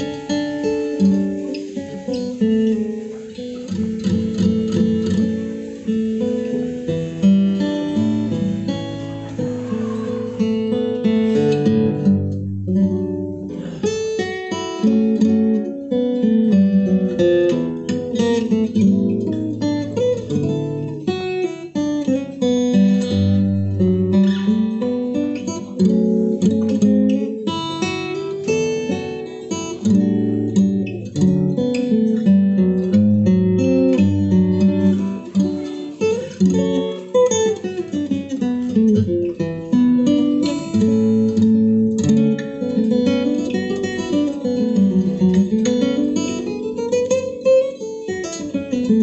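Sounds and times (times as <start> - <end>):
acoustic guitar playing: 0.0 - 49.0.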